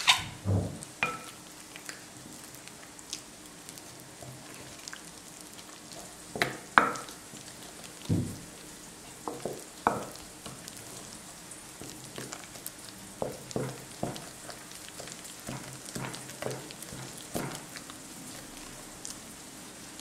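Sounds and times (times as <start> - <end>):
wet squelching of mashed potatoes: 0.8 - 20.0.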